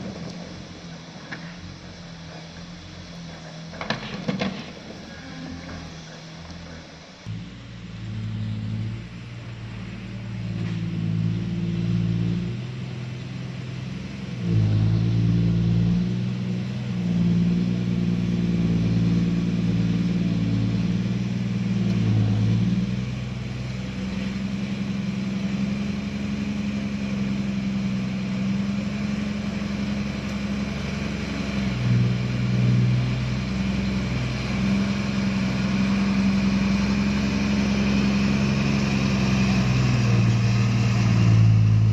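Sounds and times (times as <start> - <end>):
heavy machinery engine revving: 0.0 - 41.9.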